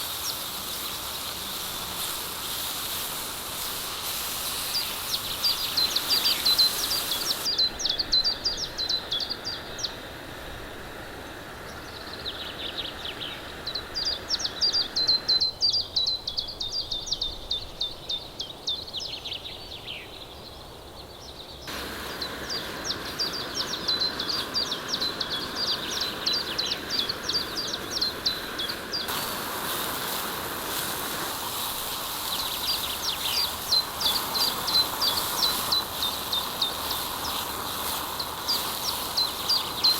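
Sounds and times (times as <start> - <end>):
songbirds chirping and trilling: 0.0 - 10.1, 11.6 - 39.9
background hiss: 0.0 - 39.9.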